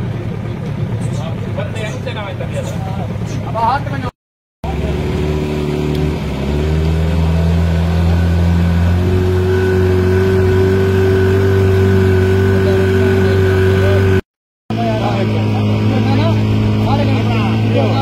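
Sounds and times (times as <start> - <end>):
motorboat engine running: 0.0 - 18.0.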